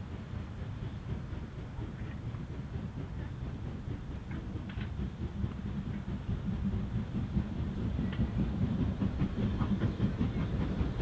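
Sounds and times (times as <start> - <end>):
steam train rumbling: 0.0 - 11.0.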